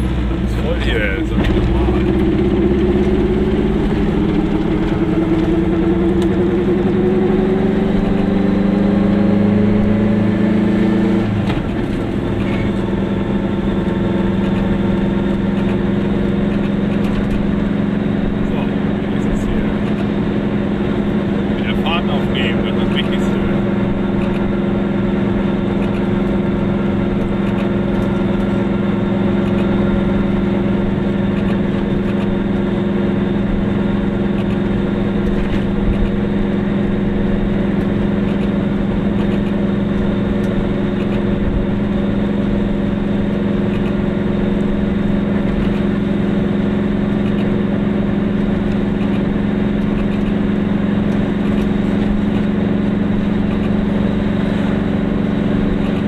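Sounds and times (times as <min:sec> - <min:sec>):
two-stroke engine running: 0:00.0 - 0:56.0
tyre and road noise: 0:00.0 - 0:56.0.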